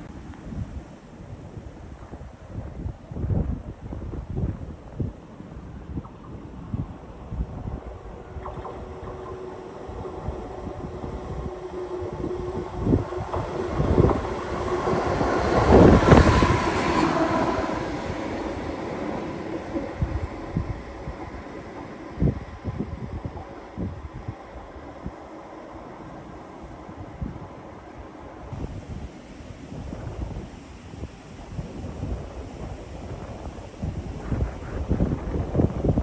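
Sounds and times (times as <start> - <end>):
wind on microphone: 0.0 - 36.0
steady background hiss: 5.2 - 36.0
train passing: 5.3 - 36.0.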